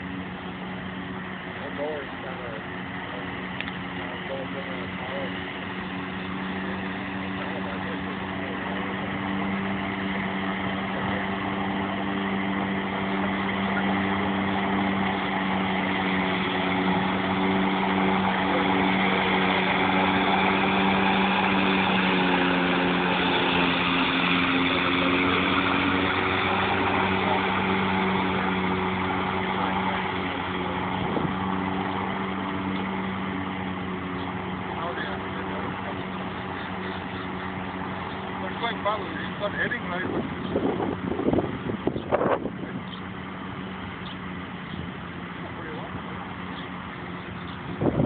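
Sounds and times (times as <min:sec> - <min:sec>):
robotic lawnmower humming: 0:00.0 - 0:48.0.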